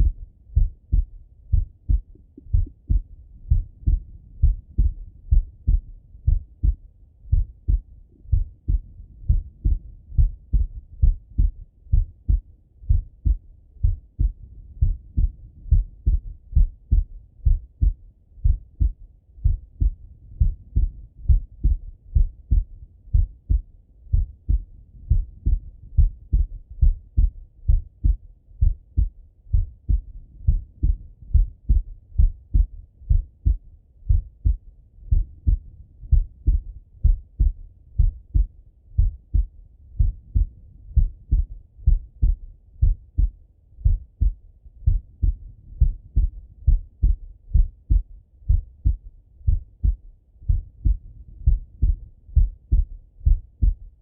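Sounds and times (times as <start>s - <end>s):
heartbeat through stethoscope: 0.0s - 54.0s.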